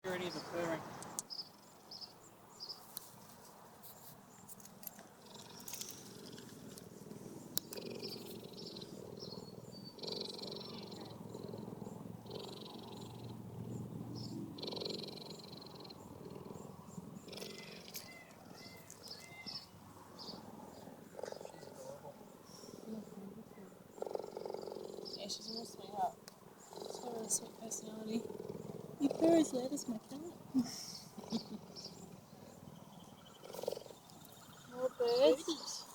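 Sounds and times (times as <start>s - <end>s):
cheetah purring: 5.2s - 6.8s, 7.6s - 19.4s, 20.2s - 35.9s.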